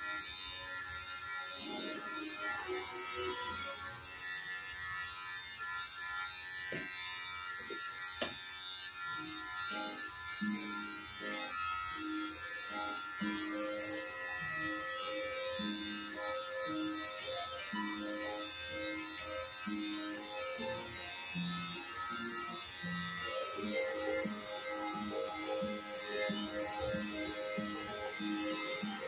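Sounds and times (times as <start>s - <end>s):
electric hair clippers running: 0.0s - 29.0s
faint background music: 0.0s - 29.0s.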